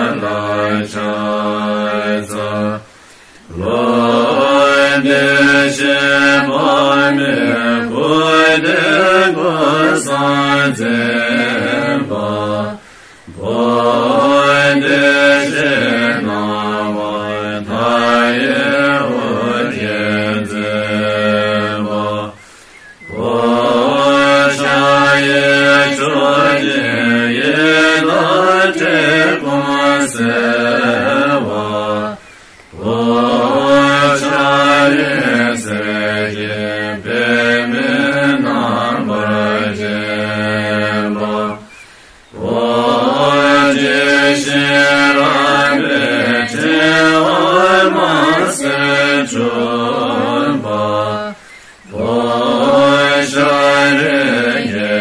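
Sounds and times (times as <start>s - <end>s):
mantra chanting: 0.0s - 22.4s, 23.1s - 41.7s, 42.3s - 55.0s.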